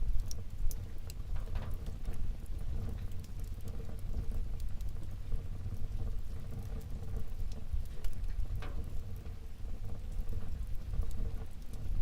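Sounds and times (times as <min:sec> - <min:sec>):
low rumble of flames: 0:00.0 - 0:12.0
wood fire crackling and popping: 0:00.0 - 0:12.0.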